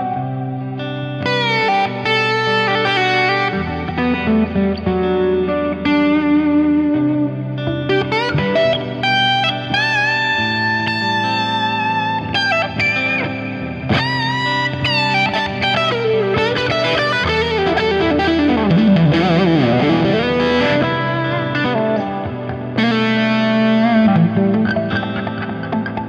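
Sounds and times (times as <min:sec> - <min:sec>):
distorted electric guitar lead: 0:00.0 - 0:26.0
looped rhythm guitar: 0:00.0 - 0:26.0.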